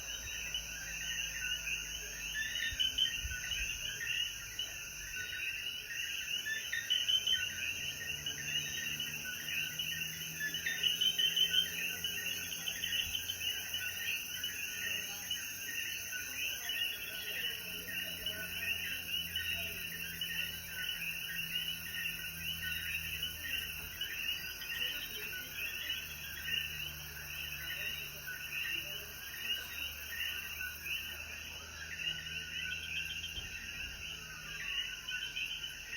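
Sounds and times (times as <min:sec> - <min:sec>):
frogs chirping in chorus: 0:00.0 - 0:35.9.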